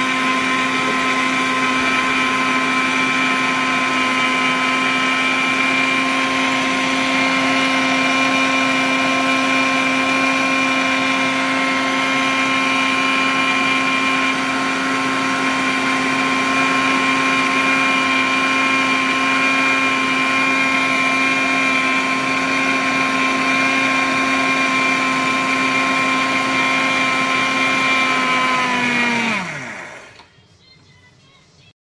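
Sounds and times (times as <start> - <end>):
mixer grinder whining: 0.0 - 30.3
motor winding down: 0.0 - 30.3.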